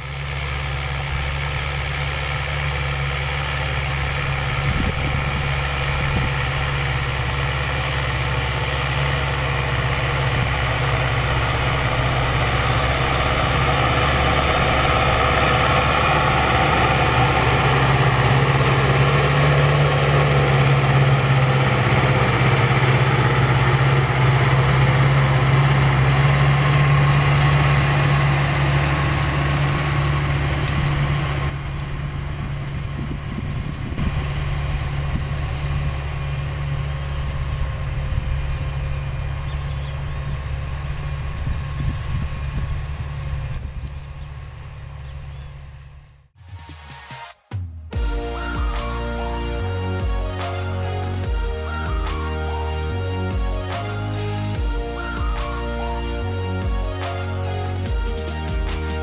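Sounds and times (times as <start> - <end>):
tractor diesel engine under load: 0.0 - 46.6, 47.9 - 59.0.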